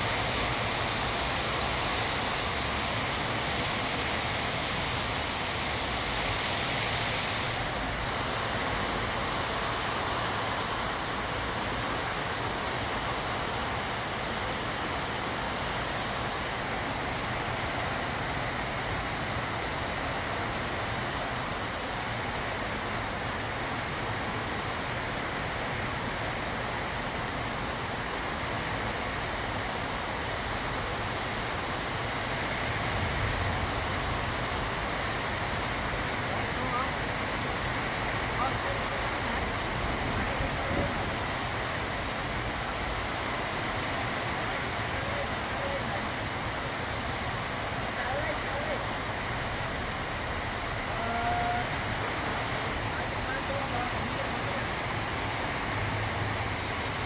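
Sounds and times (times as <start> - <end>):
heavy rain on pavement: 0.0 - 57.0.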